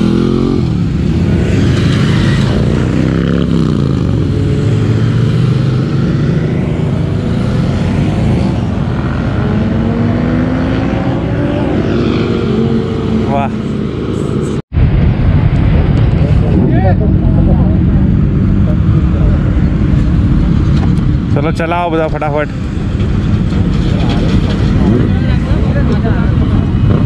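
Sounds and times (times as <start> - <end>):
motorcycle engines accelerating: 0.0 - 27.0.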